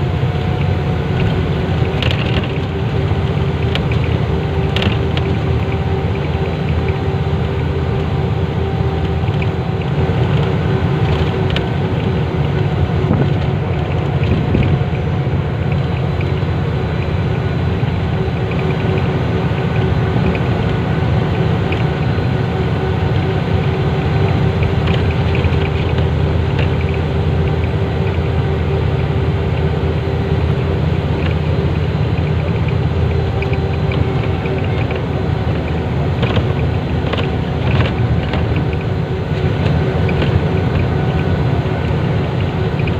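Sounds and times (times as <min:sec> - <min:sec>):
engine rumbling: 0:00.0 - 0:42.9.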